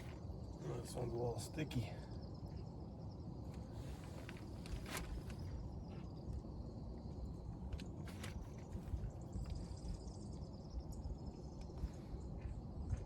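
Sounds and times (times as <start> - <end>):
faint insect trill: 0.0 - 13.0.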